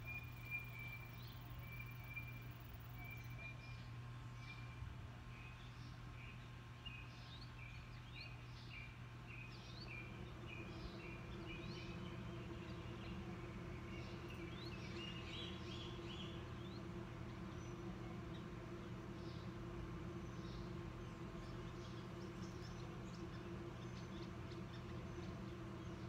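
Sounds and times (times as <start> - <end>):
birds chirping: 0.0 - 26.0
low outdoor hum: 0.0 - 26.0.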